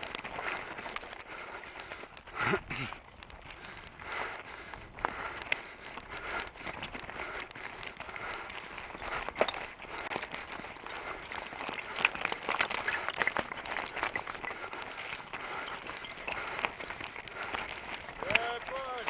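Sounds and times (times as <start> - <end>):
gravel crunching underfoot: 0.0 - 19.0.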